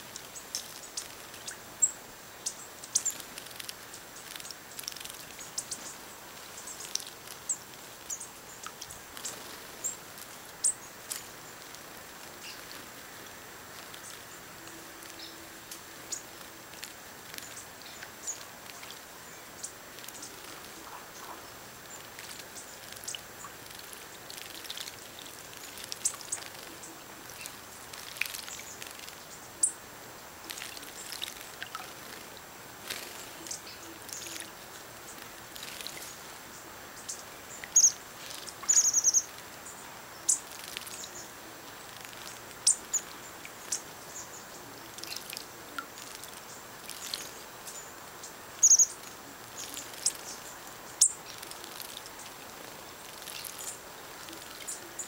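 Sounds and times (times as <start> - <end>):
small songbirds chirping: 0.0 - 55.0
steady faint hiss: 0.0 - 55.0
birds splashing in water: 2.8 - 36.5, 40.2 - 44.0, 44.6 - 47.6, 48.5 - 55.0.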